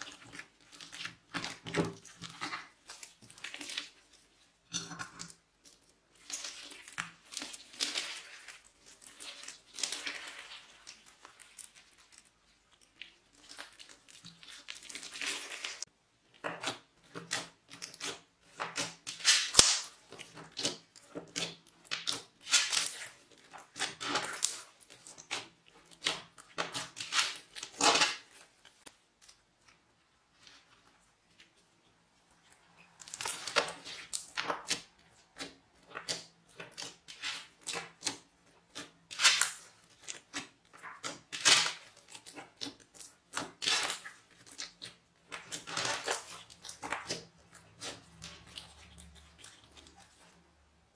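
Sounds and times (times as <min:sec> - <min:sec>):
slime kneaded by hand: 0:05.2 - 0:50.9.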